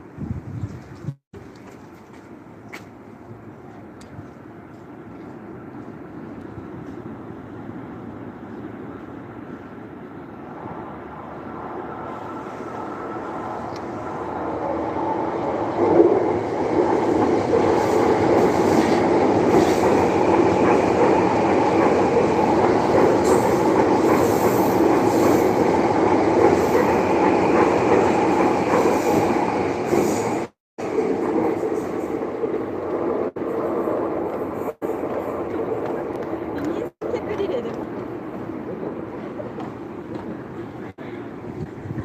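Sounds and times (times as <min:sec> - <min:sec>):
train passing: 0:01.4 - 0:42.0.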